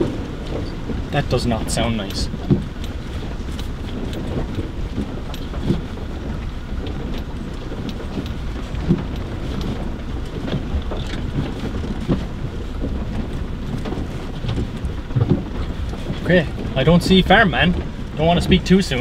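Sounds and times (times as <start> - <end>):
truck engine and tyres on stones: 0.0 - 19.0.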